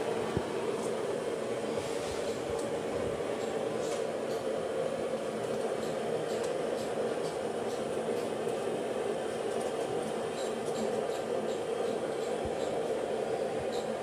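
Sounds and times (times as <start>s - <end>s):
steady machine noise: 0.0s - 14.0s.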